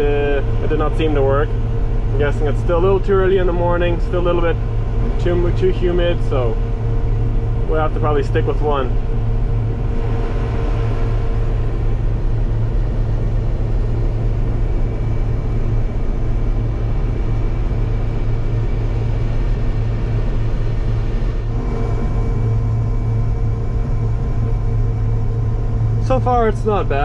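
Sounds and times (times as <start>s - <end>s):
combine engine drone: 0.0s - 27.0s
faint whining tones: 0.0s - 27.0s.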